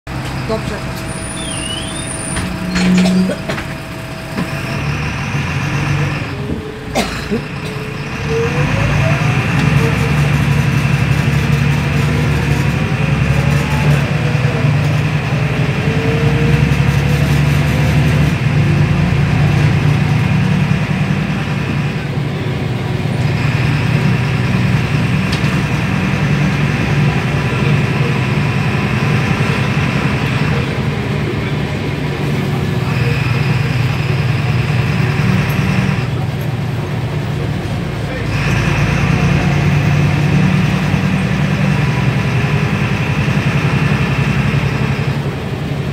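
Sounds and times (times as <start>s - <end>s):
bus diesel engine droning: 0.0s - 45.9s.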